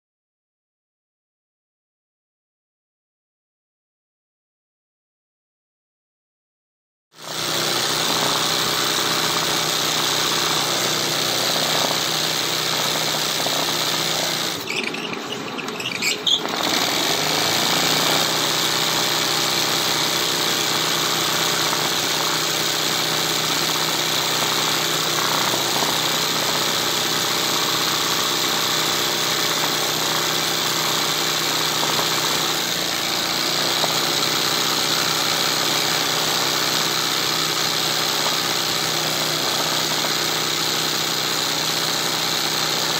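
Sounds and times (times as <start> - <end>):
sewing machine running: 7.2 - 42.9.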